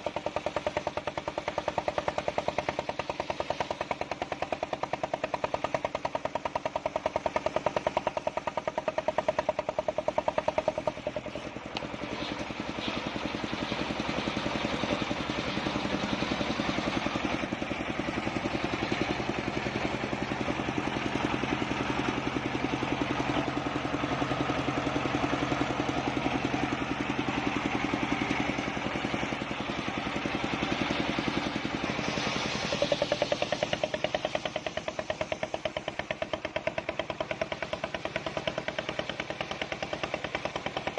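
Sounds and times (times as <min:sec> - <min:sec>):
saw blade cutting log: 0:00.0 - 0:40.9
saw engine running: 0:00.0 - 0:40.9.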